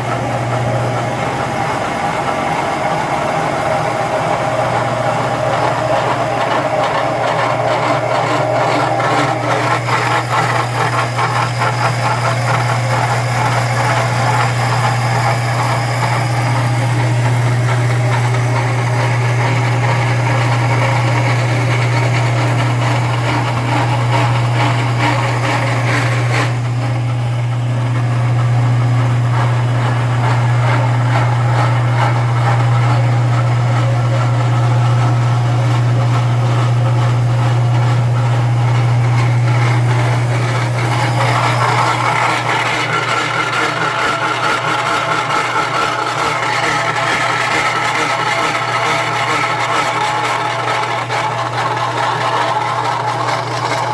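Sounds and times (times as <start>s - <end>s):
machine humming: 0.0s - 53.9s
rough high machining noise: 0.0s - 53.9s.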